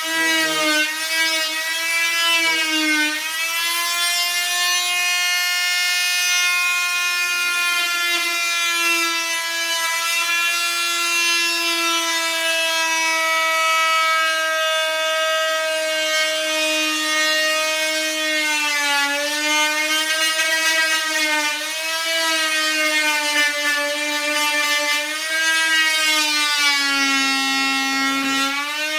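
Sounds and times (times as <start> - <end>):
oscillating multi-tool cutting wood: 0.0 - 28.9.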